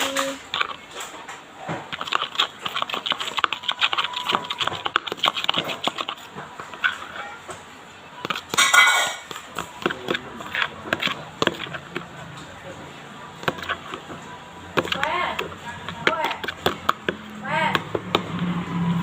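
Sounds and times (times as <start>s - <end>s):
spoon scraping in a bowl: 0.0s - 18.6s.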